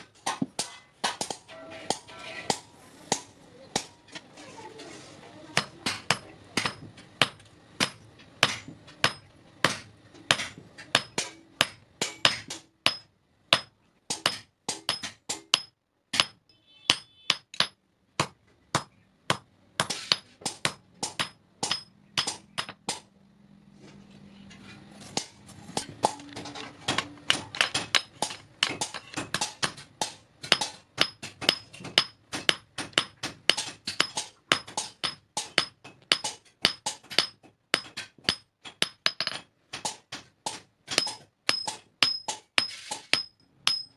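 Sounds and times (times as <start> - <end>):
hammer striking metal on anvil: 5.6 - 23.1, 25.2 - 43.9.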